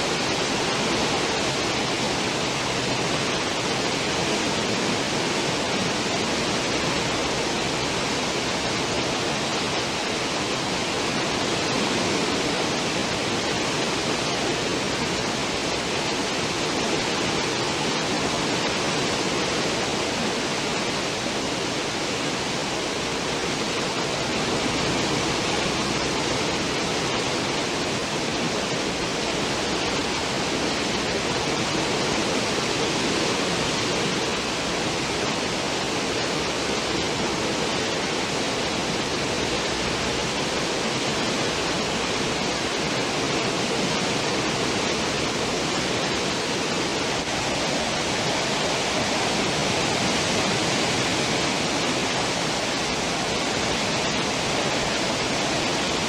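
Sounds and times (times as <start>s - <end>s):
ship wake churning water: 0.0s - 56.0s.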